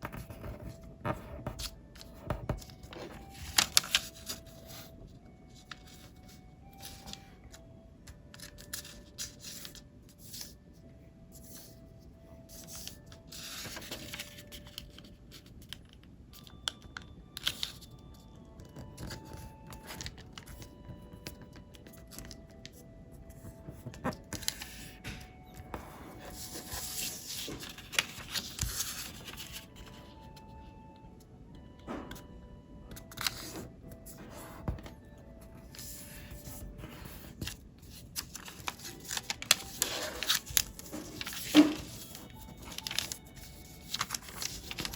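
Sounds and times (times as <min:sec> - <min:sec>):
faint background music: 0:00.0 - 0:44.9
paper folding and crinkling: 0:01.4 - 0:10.6, 0:11.3 - 0:16.8, 0:17.4 - 0:30.5, 0:33.0 - 0:44.9.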